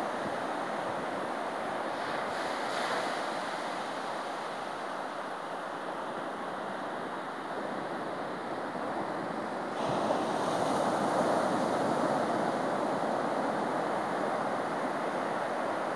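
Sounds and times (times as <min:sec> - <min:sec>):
small waves washing over sand: 0:00.0 - 0:15.9.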